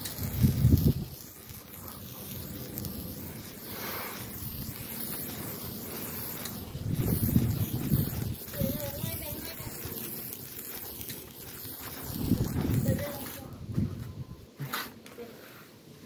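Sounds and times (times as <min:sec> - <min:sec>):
sparkler fizzing: 0:00.0 - 0:13.6.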